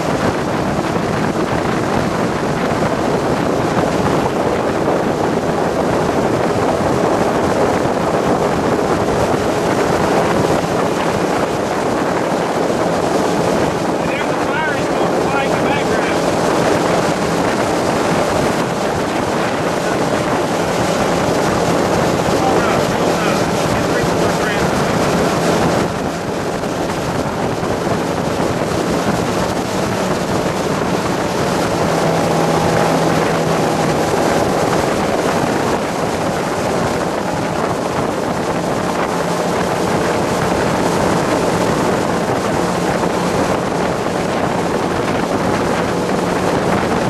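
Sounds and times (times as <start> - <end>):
boat engine humming: 0.0 - 47.0
dense rushing noise: 9.0 - 47.0.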